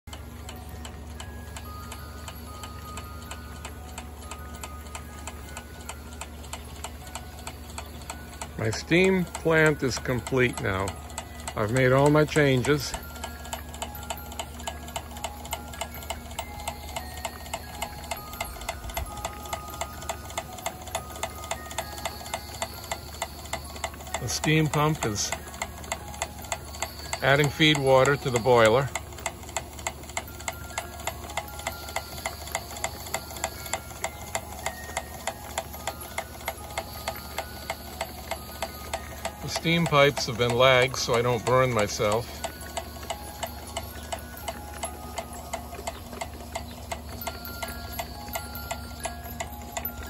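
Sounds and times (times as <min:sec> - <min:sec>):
steam pump clicking: 0:00.1 - 0:50.0.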